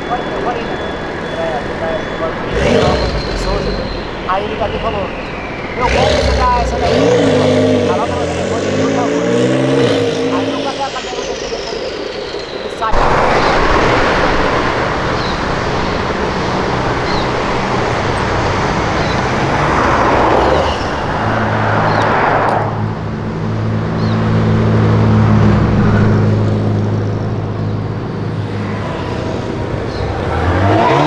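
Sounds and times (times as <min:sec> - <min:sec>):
car engine passing: 0:00.0 - 0:31.0
passing street traffic: 0:00.0 - 0:31.0.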